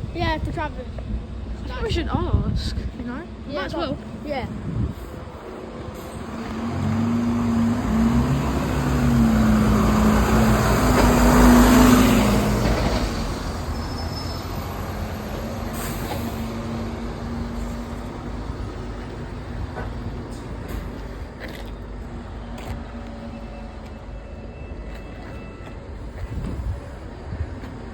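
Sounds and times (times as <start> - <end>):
bus engine passing: 0.0 - 27.9.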